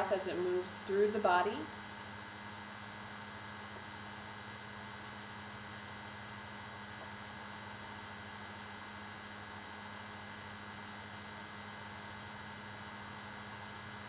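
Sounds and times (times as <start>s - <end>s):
constant hiss: 0.0s - 14.0s
low electrical hum: 0.0s - 14.0s.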